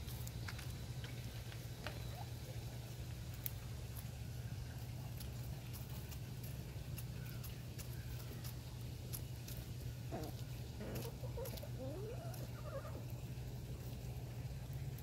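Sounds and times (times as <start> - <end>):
hens pecking on paving stones: 0.0 - 15.0
steady low hum: 0.0 - 15.0.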